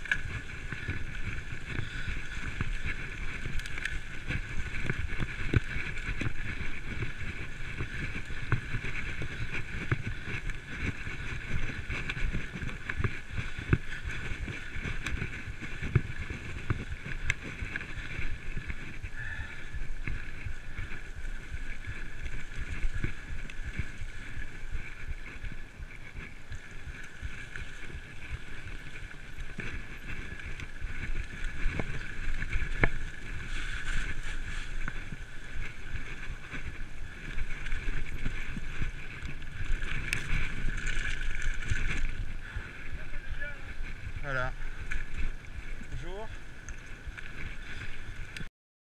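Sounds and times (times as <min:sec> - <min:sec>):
bike tyres rumbling over rough ground: 0:00.0 - 0:48.5
wind buffeting microphone: 0:00.0 - 0:48.5.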